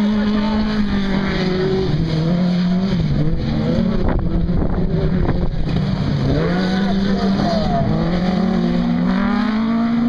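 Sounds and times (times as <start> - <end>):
racing buggy engine revving: 0.0 - 10.0.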